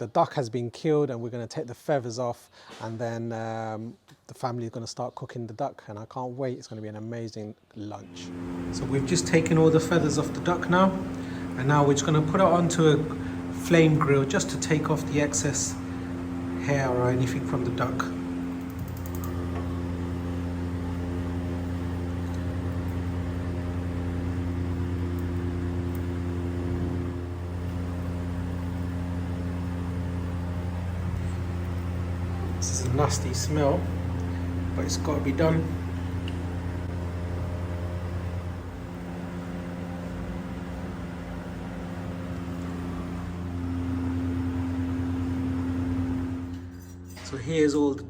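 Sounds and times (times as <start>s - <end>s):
engine running steadily: 8.1s - 47.0s
motor humming: 8.1s - 47.1s.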